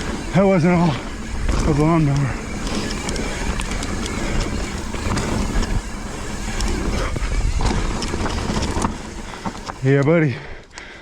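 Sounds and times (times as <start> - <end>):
wind rushing over microphone: 0.0 - 9.8
bike clicks and rattles: 0.0 - 11.0
bike tyres on dirt trail: 0.0 - 11.0.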